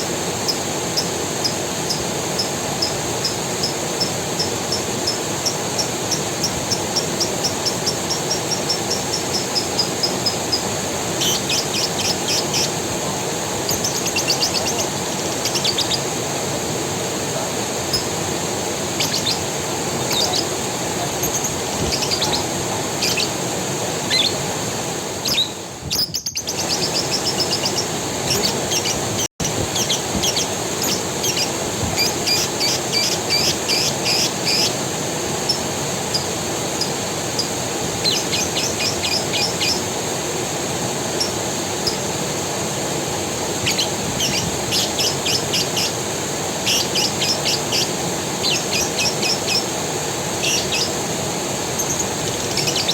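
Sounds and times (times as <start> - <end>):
small birds chirping: 0.0 - 16.5, 18.8 - 23.4, 24.0 - 24.4, 25.2 - 34.8, 35.4 - 40.0, 41.1 - 42.2, 43.6 - 52.9
forest creek running: 0.0 - 52.9.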